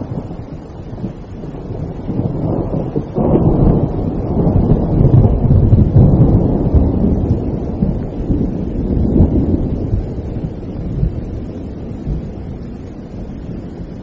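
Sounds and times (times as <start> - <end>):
rolling thunder: 0.0 - 14.0
wind: 0.0 - 14.0.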